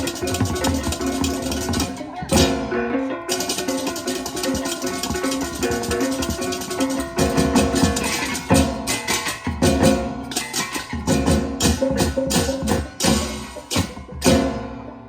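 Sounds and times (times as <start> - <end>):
hand cymbals clashing: 0.0 - 14.9
drums: 0.0 - 15.0.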